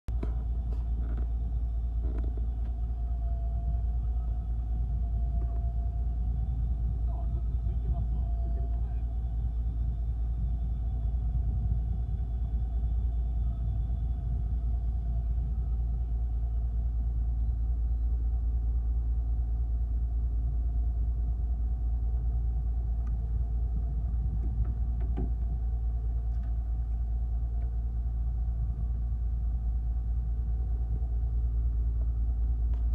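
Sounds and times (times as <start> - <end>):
boat engine rumbling: 0.1 - 32.9.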